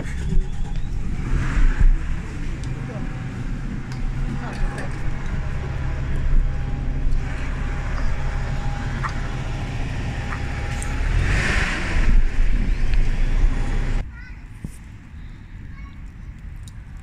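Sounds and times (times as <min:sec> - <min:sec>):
bus engine rumbling: 0:00.0 - 0:14.4.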